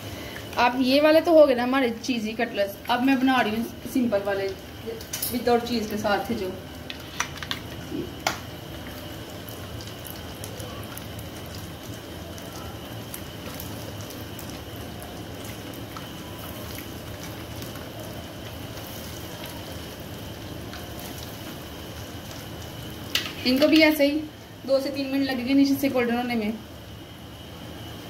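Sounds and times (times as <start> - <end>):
cutlets sizzling in hot oil: 0.0 - 28.0.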